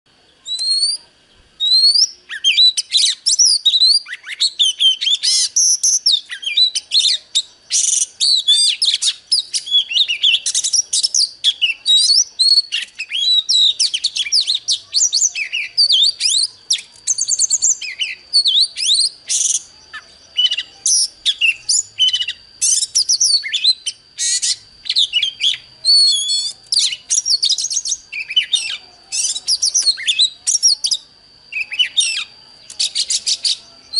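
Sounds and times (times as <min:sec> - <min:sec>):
magpie-robin singing: 0:00.4 - 0:33.9.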